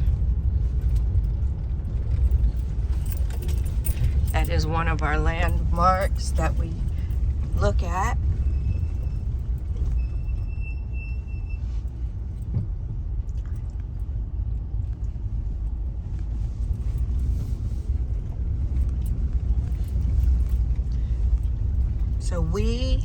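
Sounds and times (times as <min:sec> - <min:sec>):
car road noise rumble: 0:00.0 - 0:23.0.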